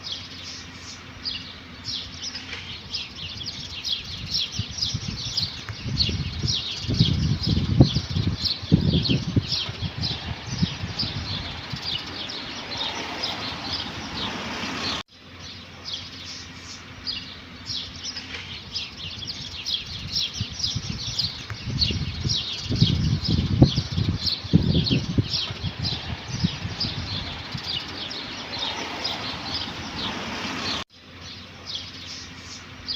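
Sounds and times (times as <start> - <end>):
low rumbling noise: 0.0 - 31.4
small birds chirping: 0.0 - 32.9.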